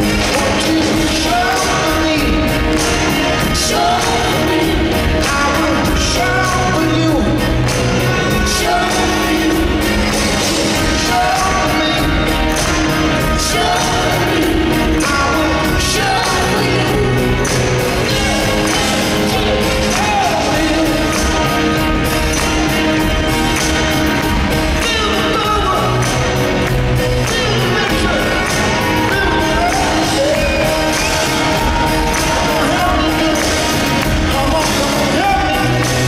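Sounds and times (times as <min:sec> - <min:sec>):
live rock band playing: 0:00.0 - 0:36.0
person singing lead vocal: 0:00.0 - 0:36.0
steady drum beat: 0:00.0 - 0:36.0.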